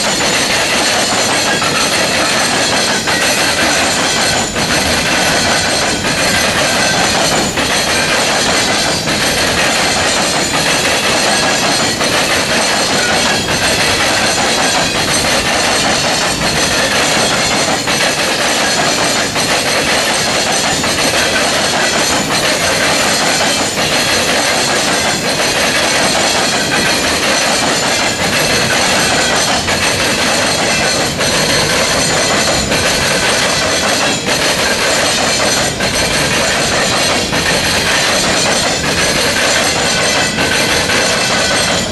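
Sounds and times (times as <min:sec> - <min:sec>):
sharp metal knocks: 0:00.0 - 0:41.9
train wheels clattering over crossing: 0:00.0 - 0:41.9.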